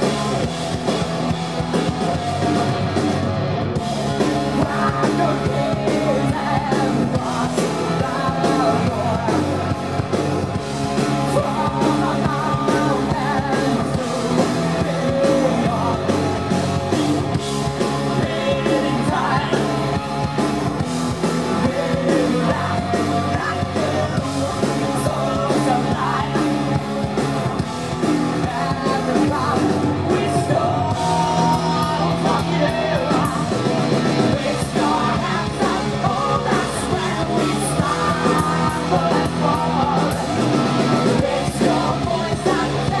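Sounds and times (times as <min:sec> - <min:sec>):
drums: 0:00.0 - 0:43.0
electric guitar: 0:00.0 - 0:43.0.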